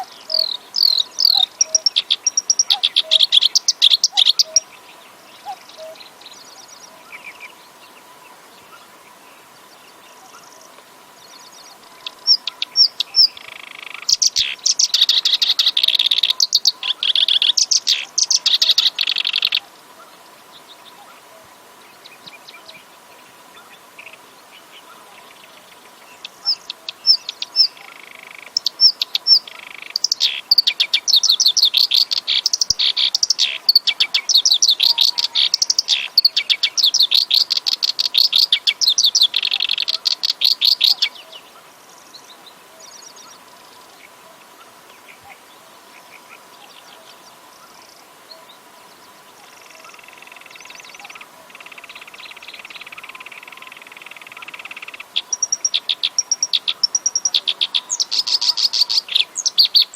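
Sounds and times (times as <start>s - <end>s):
reed warbler singing: 0.0s - 59.9s.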